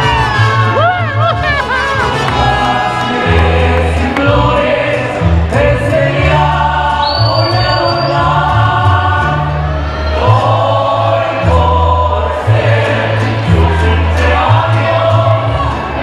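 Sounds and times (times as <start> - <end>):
voices singing together: 2.0 - 16.0.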